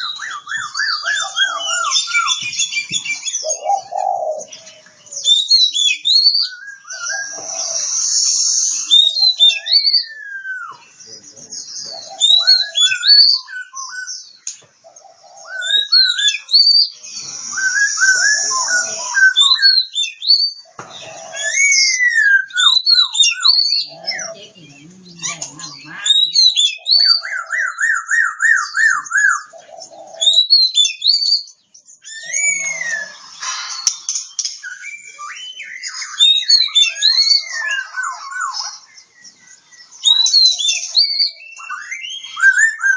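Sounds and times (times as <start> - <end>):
magpie-robin singing: 0.0 - 42.9.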